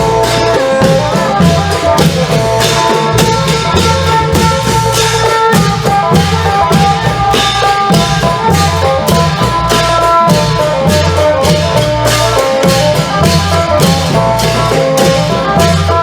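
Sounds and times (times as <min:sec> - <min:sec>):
jangling cymbals: 0:00.0 - 0:16.0
long drums driving beat: 0:00.0 - 0:16.0
lute melody: 0:00.0 - 0:16.0.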